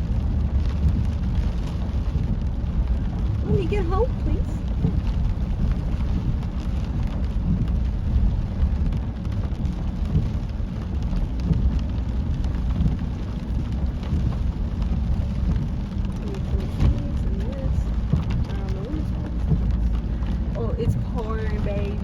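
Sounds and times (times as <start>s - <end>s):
heavy rain on a car: 0.0s - 22.0s.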